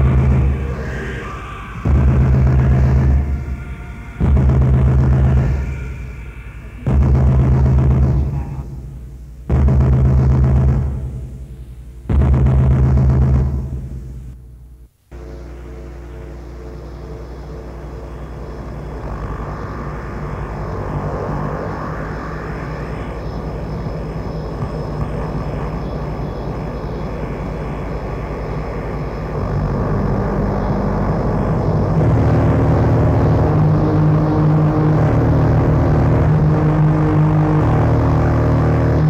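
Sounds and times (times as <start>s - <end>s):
droning industrial noise music: 0.0s - 39.0s
rising whine: 0.0s - 39.0s.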